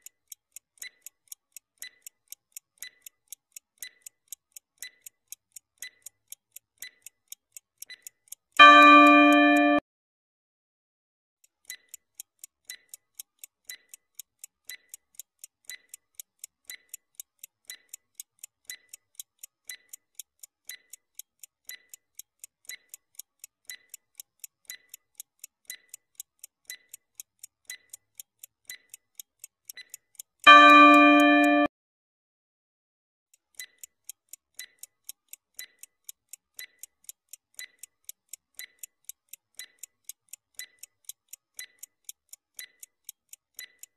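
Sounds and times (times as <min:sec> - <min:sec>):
clock ticking: 0:00.0 - 0:09.8, 0:11.4 - 0:31.7, 0:33.3 - 0:43.9.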